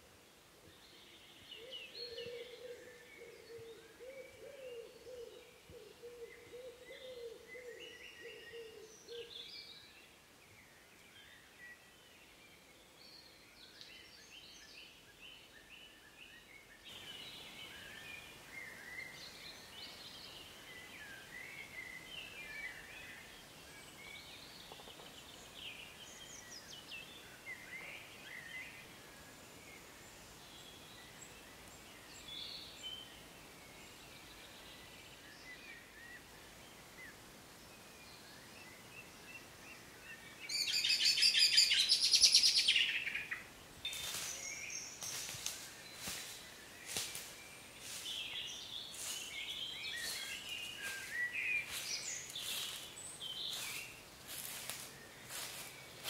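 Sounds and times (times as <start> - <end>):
birds singing and calling: 0.7 - 10.0, 10.6 - 56.0.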